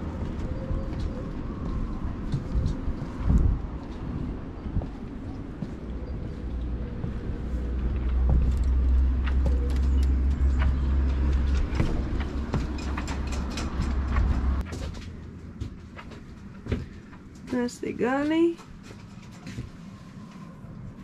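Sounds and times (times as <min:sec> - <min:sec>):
wind rumbling on microphone: 0:00.0 - 0:21.0
footsteps and knocks on deck: 0:00.2 - 0:17.7
light clicks and clatter: 0:00.9 - 0:20.0.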